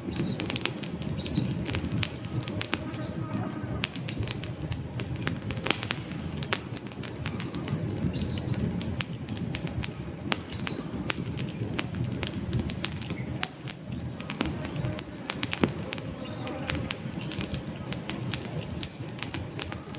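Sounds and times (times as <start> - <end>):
low rush of flame: 0.0 - 19.9
wood fire crackling and popping: 0.0 - 19.9.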